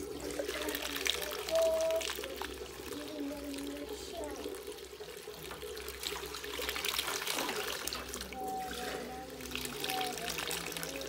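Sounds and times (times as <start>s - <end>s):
milk pouring into steel basin: 0.0s - 11.0s.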